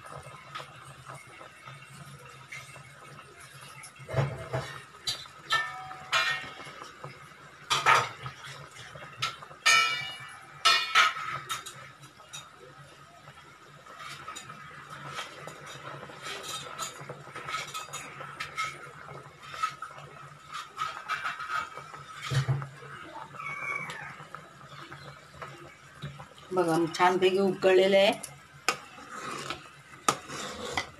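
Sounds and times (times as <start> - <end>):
curry bubbling and popping: 0.0 - 30.9.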